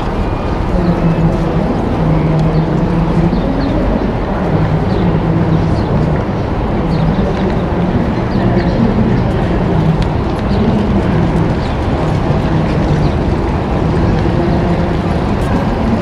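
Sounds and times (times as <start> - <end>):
low engine-like hum: 0.0 - 16.0
rushing background noise: 0.0 - 16.0.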